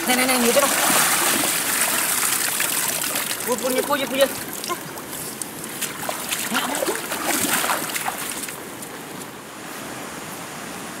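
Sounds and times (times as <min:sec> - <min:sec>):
stream water running: 0:00.0 - 0:11.0
feet wading through water: 0:00.3 - 0:09.3.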